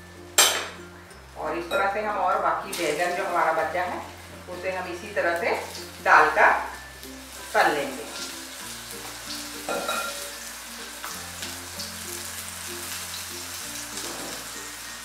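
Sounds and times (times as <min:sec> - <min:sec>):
eggplant slices sizzling in oil: 0:00.0 - 0:15.0
soft background music: 0:00.0 - 0:15.0.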